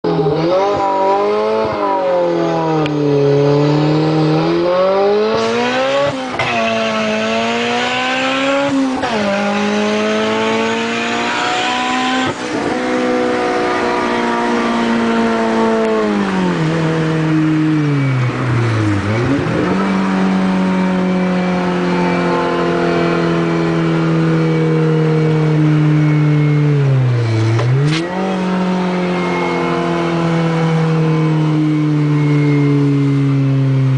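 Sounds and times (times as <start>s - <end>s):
car engine revving under load: 0.0s - 33.9s.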